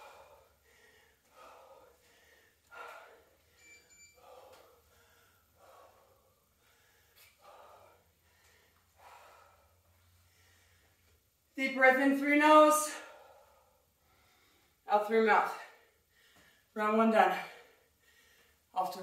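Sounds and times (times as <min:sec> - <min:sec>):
woman breathing hard: 0:00.0 - 0:11.3, 0:12.9 - 0:14.8, 0:15.7 - 0:16.7, 0:17.4 - 0:18.7.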